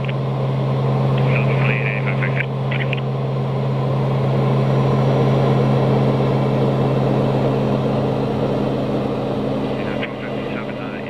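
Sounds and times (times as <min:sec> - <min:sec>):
turboprop cabin drone: 0:00.0 - 0:11.0.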